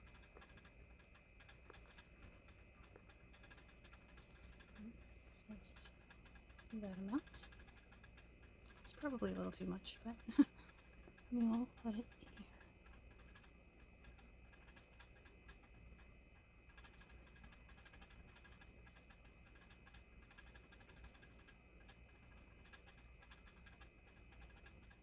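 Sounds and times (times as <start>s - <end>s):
faint clicks: 0.0s - 25.0s
faint steady hum: 0.0s - 25.0s.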